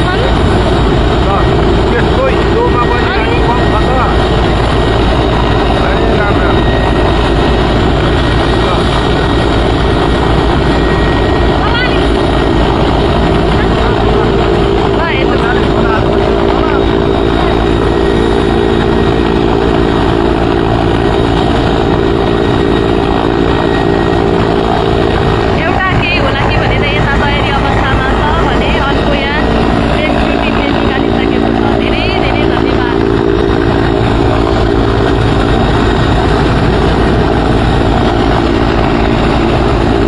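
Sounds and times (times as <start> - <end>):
loud engine drone: 0.0 - 40.0.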